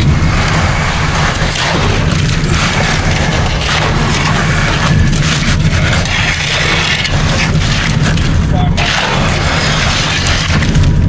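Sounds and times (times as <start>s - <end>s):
wet concrete scraping and sliding: 0.0s - 11.0s.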